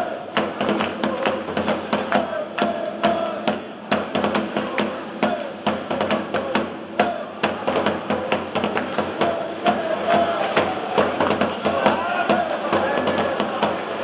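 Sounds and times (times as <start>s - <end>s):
crowd rhythmic banging: 0.0s - 14.0s
faint chanting voices: 0.0s - 14.0s.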